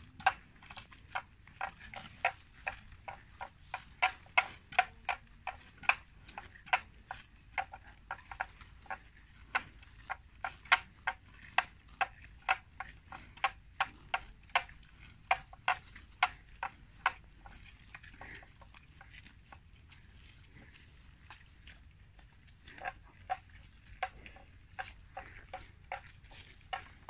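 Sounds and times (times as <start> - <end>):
buffalo chewing plants: 0.0 - 27.0.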